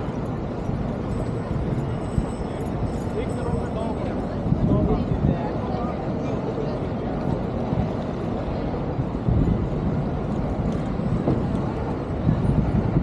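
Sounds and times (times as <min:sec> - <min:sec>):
traffic rumble: 0:00.0 - 0:13.0
wind on microphone: 0:00.0 - 0:13.0.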